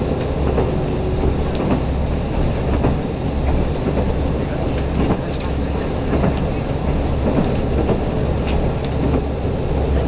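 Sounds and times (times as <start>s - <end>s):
train running rumble: 0.0s - 10.0s.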